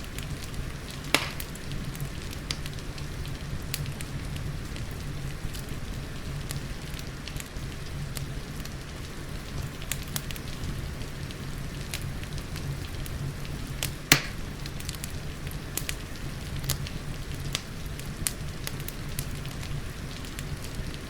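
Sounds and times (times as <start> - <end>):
rain falling: 0.0 - 21.0
wood fire crackling: 0.0 - 21.0.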